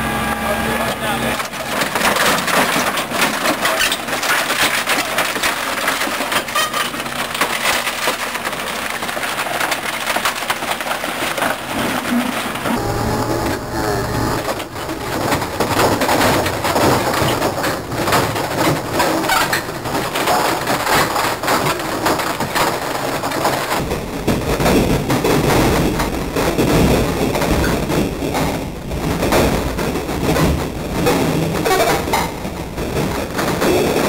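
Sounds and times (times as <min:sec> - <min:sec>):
garbage truck compactor rumble: 0:00.0 - 0:34.0
wood cracking and splintering: 0:01.2 - 0:12.8, 0:14.2 - 0:34.0.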